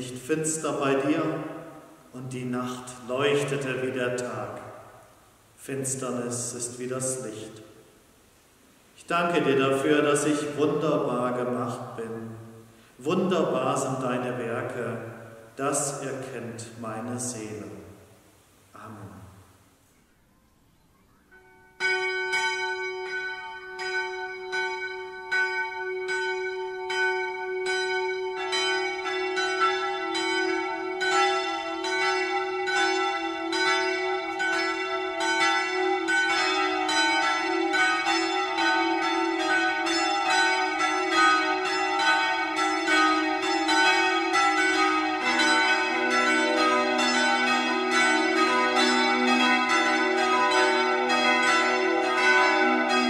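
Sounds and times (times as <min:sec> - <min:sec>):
church bells ringing: 0:00.0 - 0:04.9, 0:09.2 - 0:17.8, 0:21.3 - 0:53.0.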